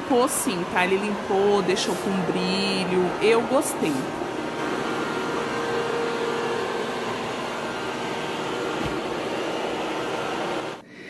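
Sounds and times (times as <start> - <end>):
robot vacuum running: 0.0 - 10.8.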